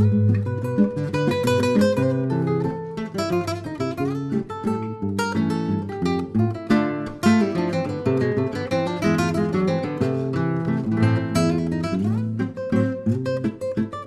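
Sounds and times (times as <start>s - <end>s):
acoustic guitar plucked and strummed: 0.0s - 14.0s.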